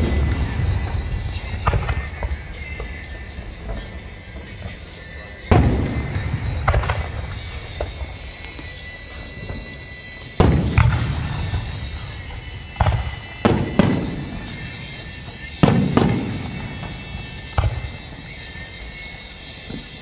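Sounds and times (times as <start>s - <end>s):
fireworks booming: 0.0s - 8.3s, 10.4s - 20.0s.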